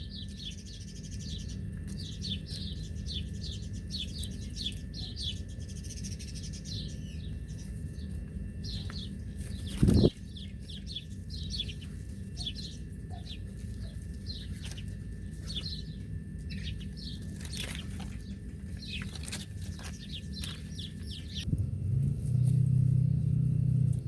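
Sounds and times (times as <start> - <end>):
small birds chirping: 0.0 - 21.6, 22.2 - 24.0
steady low hum: 0.0 - 24.0.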